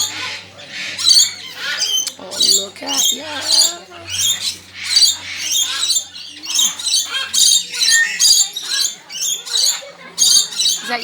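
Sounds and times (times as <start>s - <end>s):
bird squawking and chattering: 0.0s - 11.0s.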